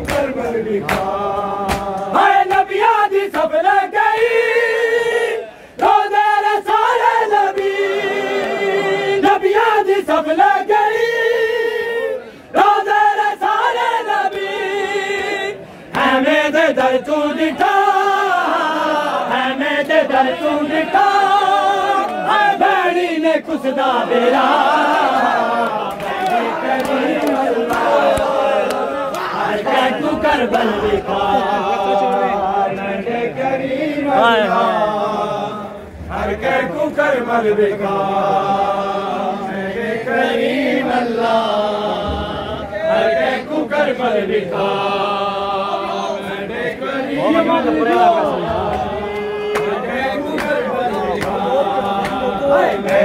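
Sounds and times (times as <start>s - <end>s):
men chanting a lament in unison: 0.0s - 53.0s.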